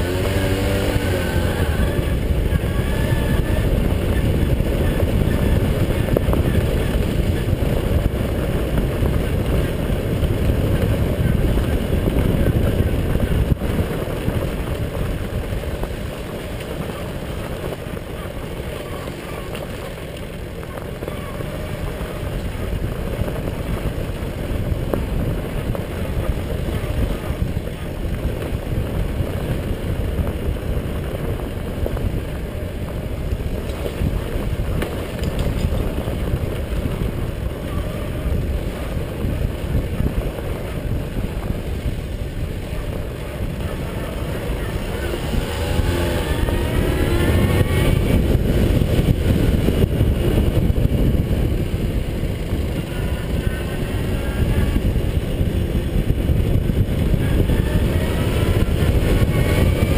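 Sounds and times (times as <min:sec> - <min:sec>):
moped engine running: 0:00.0 - 0:59.9
road and wind noise: 0:00.0 - 0:59.9.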